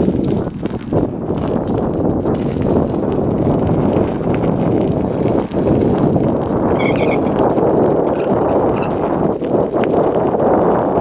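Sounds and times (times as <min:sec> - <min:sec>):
bicycle tyres on gravel: 0:00.0 - 0:11.0.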